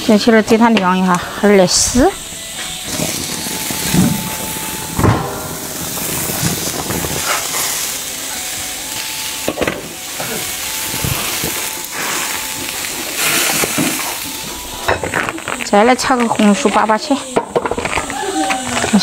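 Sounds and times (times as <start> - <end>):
hot oil hissing in a wok: 0.0 - 19.0.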